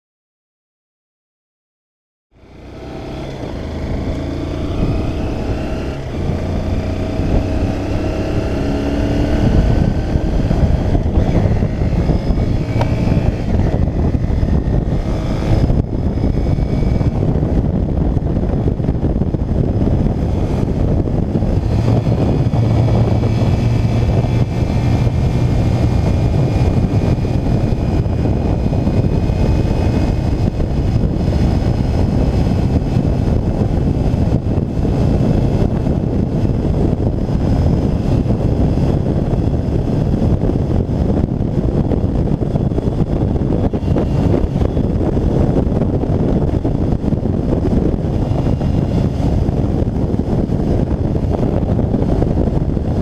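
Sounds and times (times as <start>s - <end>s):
motorcycle engine revving: 2.4s - 53.0s
wind rushing over microphone: 2.4s - 53.0s.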